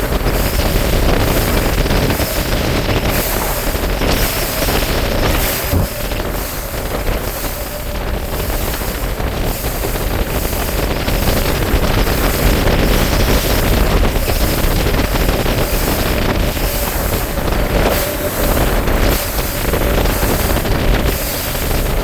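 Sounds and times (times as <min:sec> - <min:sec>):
boat motor running: 0:00.0 - 0:22.0
water rushing past hull: 0:00.0 - 0:22.0
wind buffeting microphone: 0:00.0 - 0:22.0.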